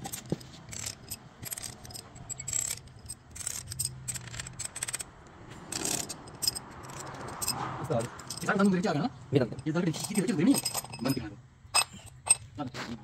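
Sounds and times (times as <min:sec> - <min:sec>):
metal pushrods clinking: 0:00.0 - 0:05.1, 0:05.7 - 0:08.8, 0:09.4 - 0:12.5.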